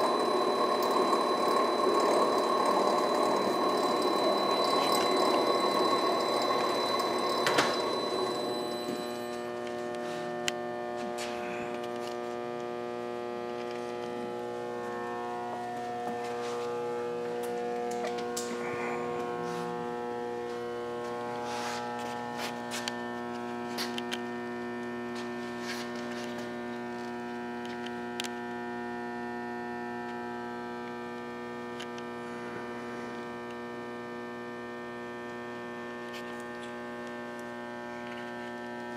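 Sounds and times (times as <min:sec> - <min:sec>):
steady electrical hum: 0:00.0 - 0:38.9.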